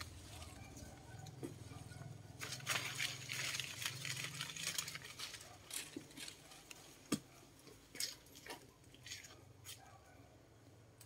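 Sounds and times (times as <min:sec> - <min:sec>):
leaves and twigs rustling: 0:00.0 - 0:09.9.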